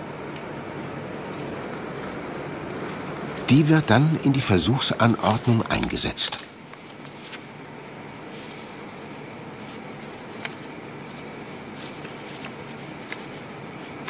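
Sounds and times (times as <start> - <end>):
steady background hiss: 0.0 - 14.0
paper rustling: 1.0 - 14.0.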